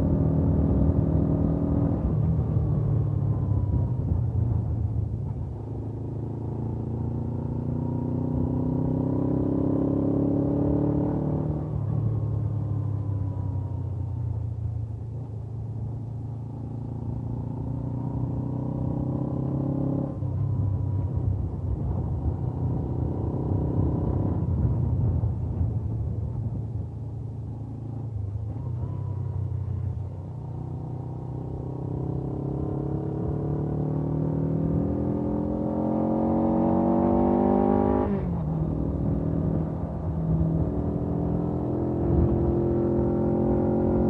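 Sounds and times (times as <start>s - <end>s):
motorcycle engine while riding: 0.0s - 44.0s.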